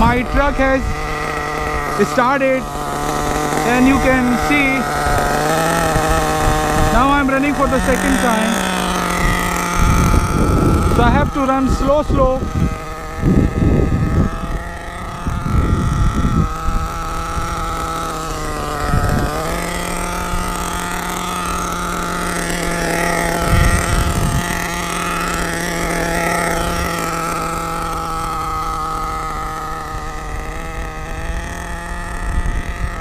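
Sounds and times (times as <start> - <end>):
small nitro engine running: 0.0 - 33.0.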